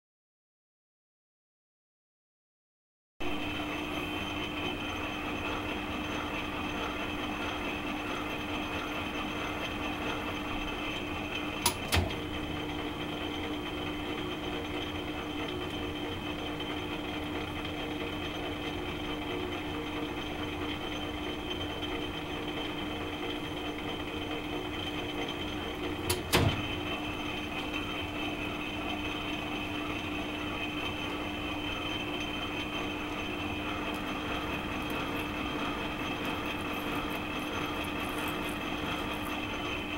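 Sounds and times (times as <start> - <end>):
metal lathe humming: 3.3 - 39.9.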